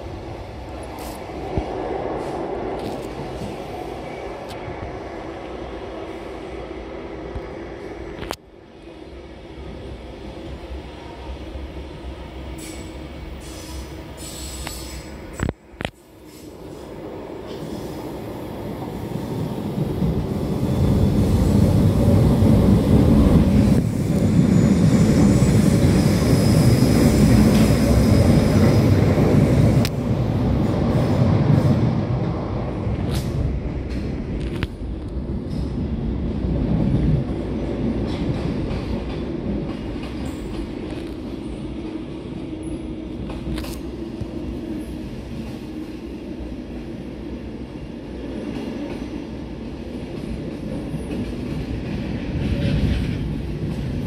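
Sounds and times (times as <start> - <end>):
electric train rumbling on rails: 0.0 - 54.0.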